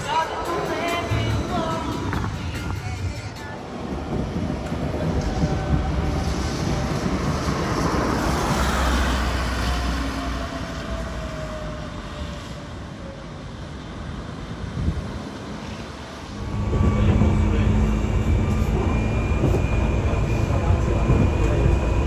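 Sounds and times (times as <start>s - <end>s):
tram passing by: 0.0s - 22.0s.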